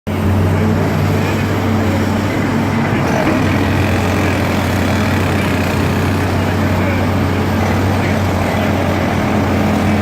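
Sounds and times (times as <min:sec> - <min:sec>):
diesel excavator engines running: 0:00.1 - 0:10.0.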